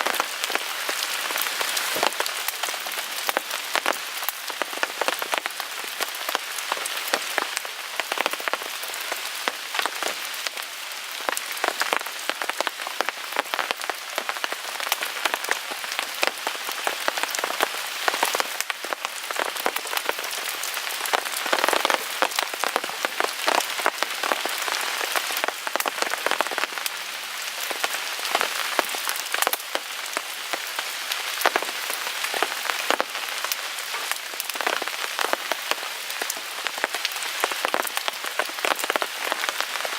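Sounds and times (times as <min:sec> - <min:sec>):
rain on a tarp: 0:00.0 - 0:39.9.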